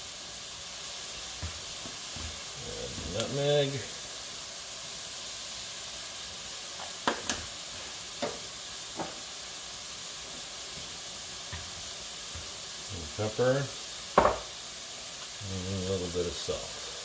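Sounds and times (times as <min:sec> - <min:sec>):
vegetables sizzling in butter: 0:00.0 - 0:17.0.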